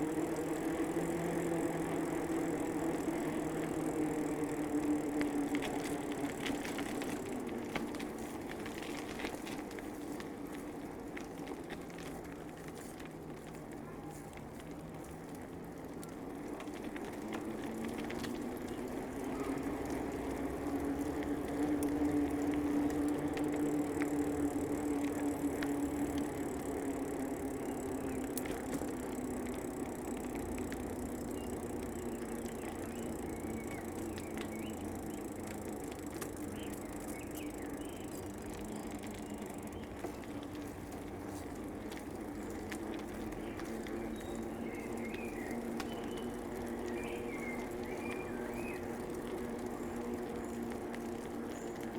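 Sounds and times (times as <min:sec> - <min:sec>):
bicycle rolling on paved path: 0:00.0 - 0:51.9.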